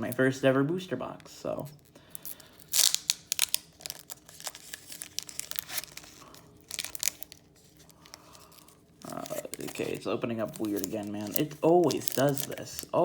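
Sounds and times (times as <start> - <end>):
foil wrapper tearing and crinkling: 1.6 - 13.0.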